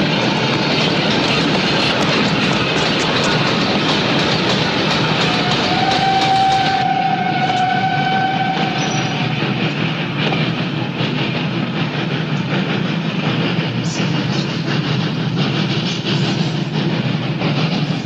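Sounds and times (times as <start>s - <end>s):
train wheels clattering on rails: 0.0s - 18.0s.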